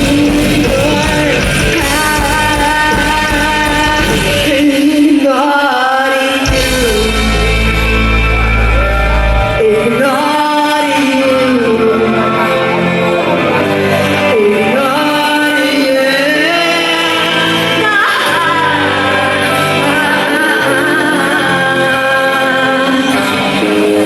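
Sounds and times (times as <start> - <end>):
lead vocal singing: 0.0 - 24.0
live rock band playing: 0.0 - 24.0.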